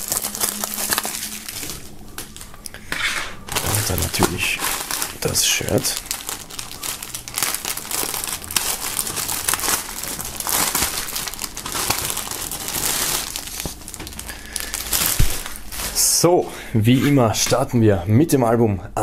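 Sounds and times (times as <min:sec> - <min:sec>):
plastic bag crinkling: 0:00.0 - 0:16.3.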